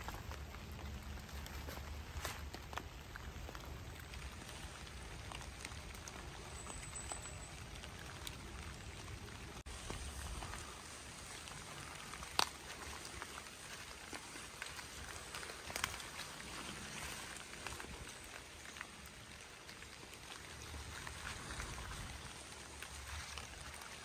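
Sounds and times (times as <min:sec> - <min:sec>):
rain pattering on leaves: 0:00.0 - 0:24.0.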